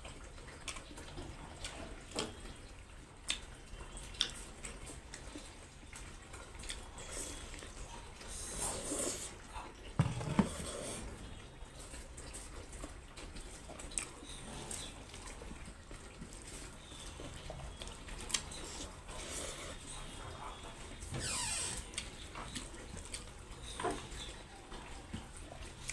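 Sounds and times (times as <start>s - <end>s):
wet chewing and lip smacks: 0.0s - 9.9s, 10.7s - 21.0s, 21.7s - 25.9s.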